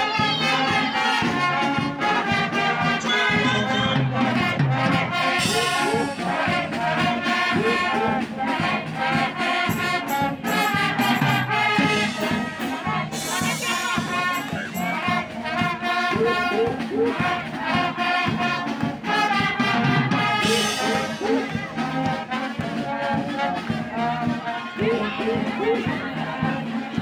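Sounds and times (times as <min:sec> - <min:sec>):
bass and snare drums: 0:00.0 - 0:27.0
brass band playing: 0:00.0 - 0:27.0.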